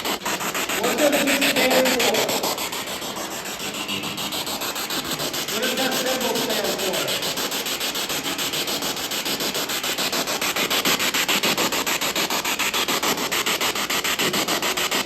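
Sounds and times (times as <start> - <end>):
pulsing radio static hiss: 0.0 - 15.0.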